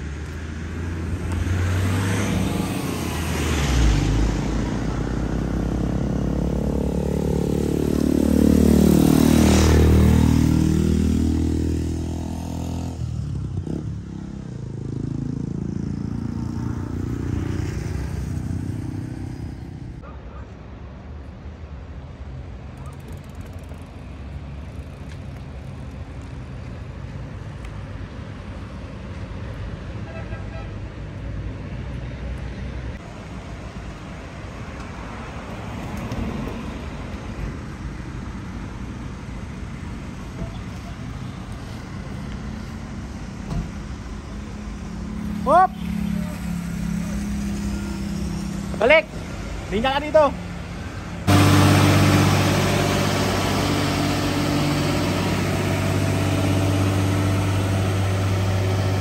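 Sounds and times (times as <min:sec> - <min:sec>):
steady road background: 0:00.0 - 0:59.0
vehicles driving past: 0:00.0 - 0:59.0.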